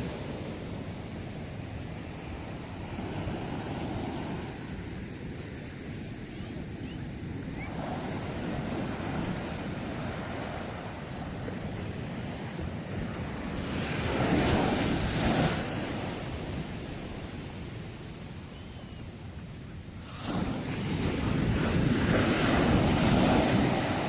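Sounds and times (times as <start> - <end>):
ocean surf washing ashore: 0.0 - 24.0
wind buffeting microphone: 0.0 - 24.0.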